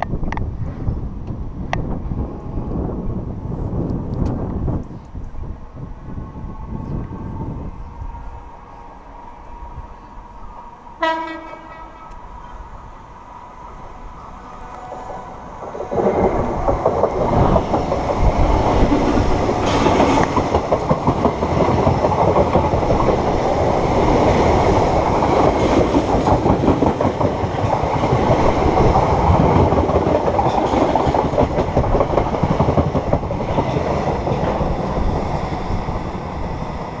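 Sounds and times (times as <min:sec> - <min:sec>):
train passing at speed: 0:00.0 - 0:37.0.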